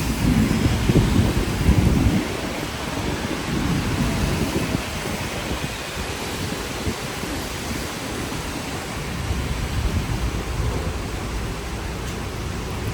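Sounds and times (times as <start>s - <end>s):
rain hiss: 0.0s - 12.9s
tram rumbling: 0.0s - 12.9s.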